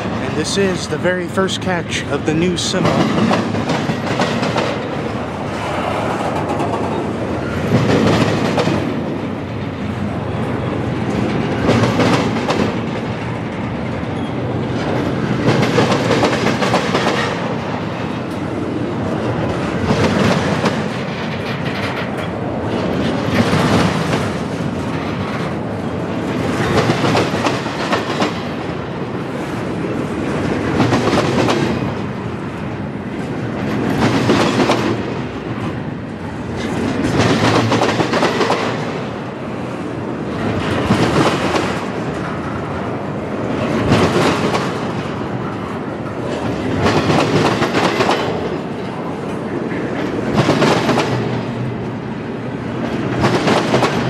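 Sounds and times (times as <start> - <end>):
train wheels clicking over rail joints: 2.7 - 18.6, 19.2 - 39.3, 40.3 - 52.0, 52.7 - 54.0.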